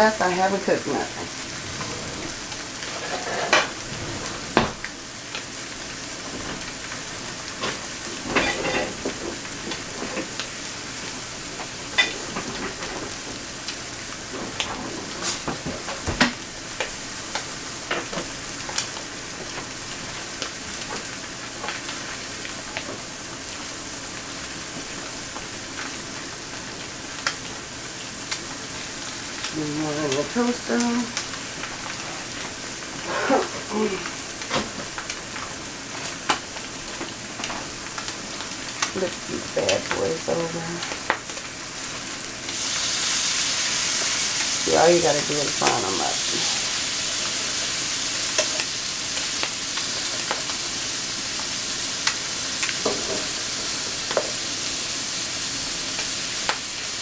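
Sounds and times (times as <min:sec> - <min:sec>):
food sizzling in skillets: 0:00.0 - 0:57.0.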